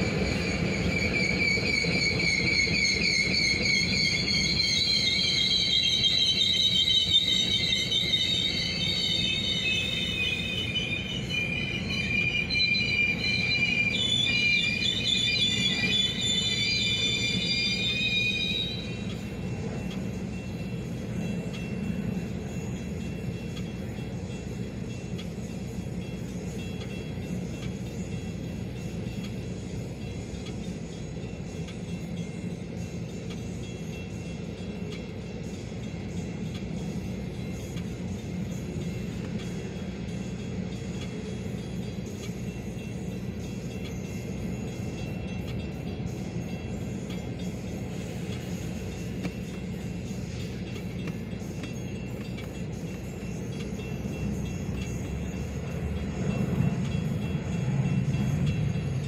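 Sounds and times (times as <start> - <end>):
train wheels squealing: 0.0 - 59.0
wheels rumbling on rails: 0.0 - 59.0.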